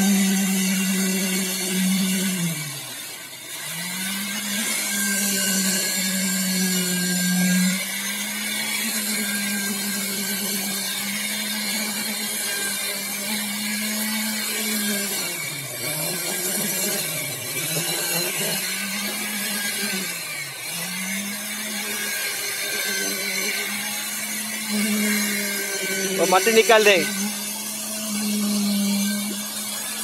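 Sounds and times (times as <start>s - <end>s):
concrete vibrator motor whine: 0.0s - 30.0s.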